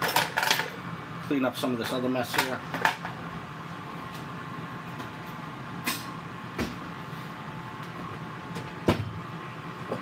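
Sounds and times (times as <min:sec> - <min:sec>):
air fryer fan humming: 0:00.0 - 0:10.0.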